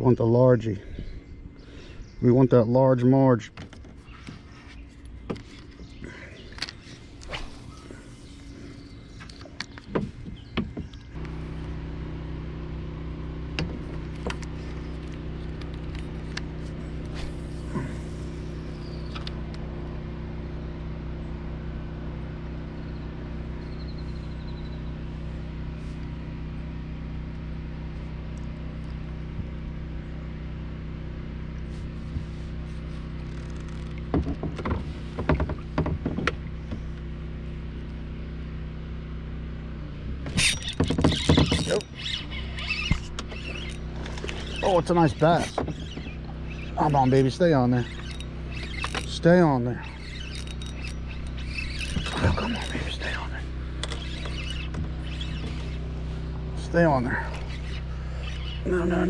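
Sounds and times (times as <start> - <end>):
motor humming: 3.6 - 59.0.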